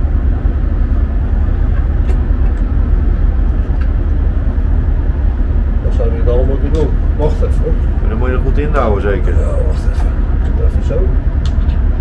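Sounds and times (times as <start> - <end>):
ship machinery rumble: 0.0 - 12.0.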